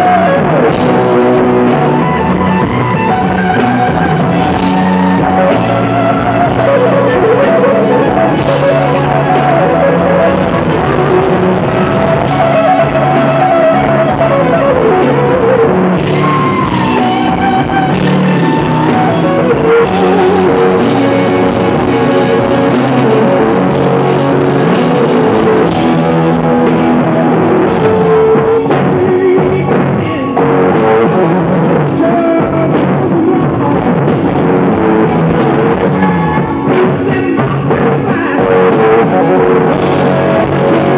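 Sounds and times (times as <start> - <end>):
drums: 0.0 - 40.9
electric guitar lead lines: 0.0 - 40.9.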